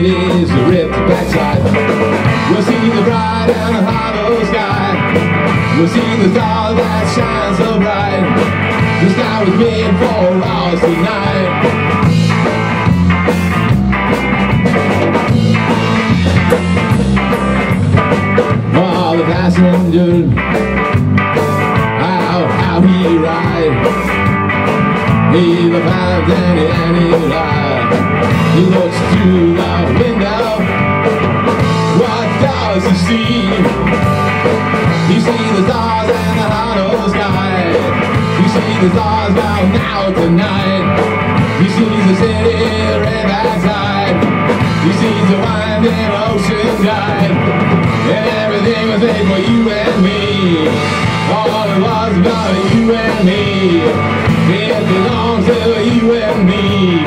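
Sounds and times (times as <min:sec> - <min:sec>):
amplified electric guitars: 0:00.0 - 0:57.0
drum kit beat: 0:00.0 - 0:57.0.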